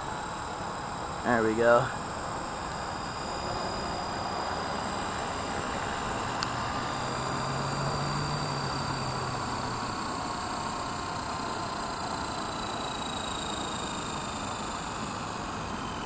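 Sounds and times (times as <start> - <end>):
high electric motor whine: 0.0 - 16.0
helicopter rotors whooshing: 1.2 - 16.0.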